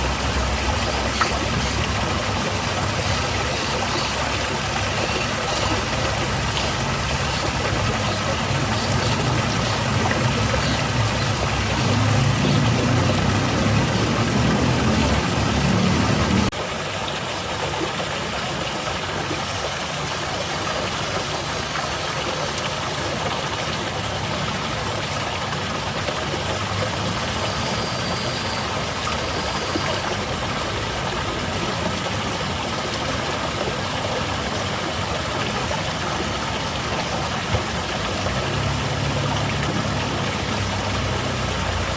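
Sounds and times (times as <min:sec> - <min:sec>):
small waterfall splashing: 0:00.0 - 0:41.9.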